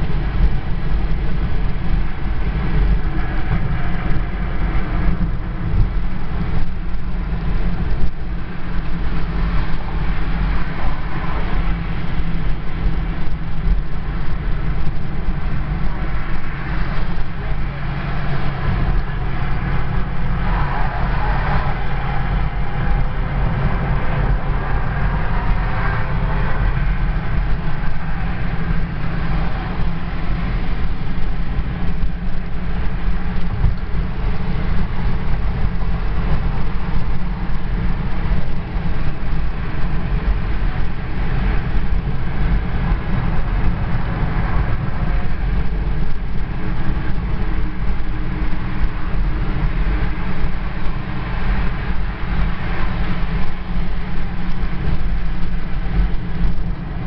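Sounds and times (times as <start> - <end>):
car road noise rumble: 0.0 - 57.0.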